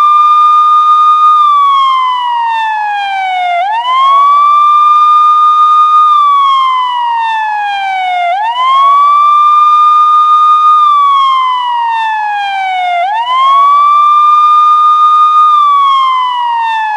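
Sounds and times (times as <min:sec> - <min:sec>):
police siren wailing: 0:00.0 - 0:16.9.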